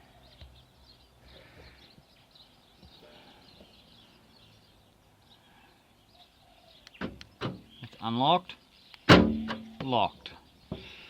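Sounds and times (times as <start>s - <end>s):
faint birdsong: 0.0s - 11.0s.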